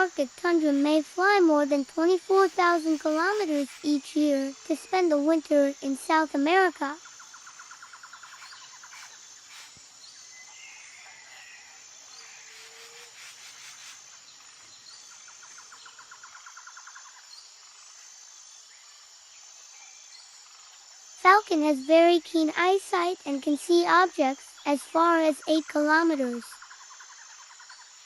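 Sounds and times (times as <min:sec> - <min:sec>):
high insect whine: 0:00.0 - 0:28.0
rapid pulsing insect trill: 0:00.0 - 0:28.0.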